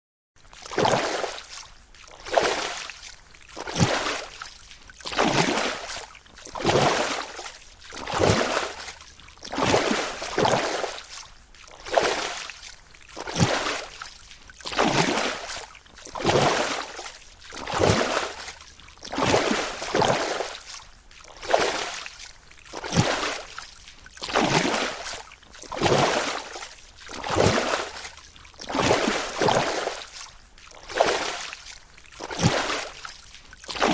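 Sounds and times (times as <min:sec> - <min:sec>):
water swishing around boat: 0:00.4 - 0:33.9.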